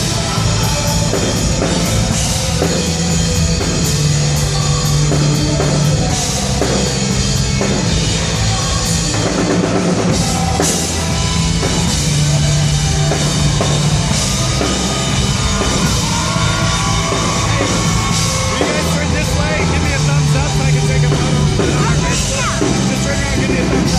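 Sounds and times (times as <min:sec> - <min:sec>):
live rock band playing: 0:00.0 - 0:23.9.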